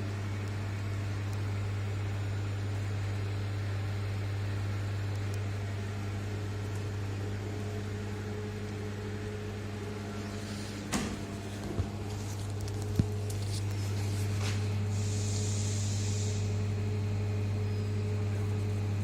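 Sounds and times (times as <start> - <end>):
electrical equipment hum: 0.0 - 19.0.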